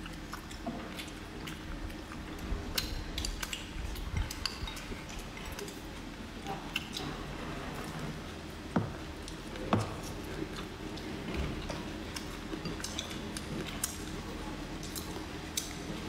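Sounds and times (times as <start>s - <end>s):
low steady hum: 0.0s - 16.0s
soft chewing: 0.0s - 16.0s.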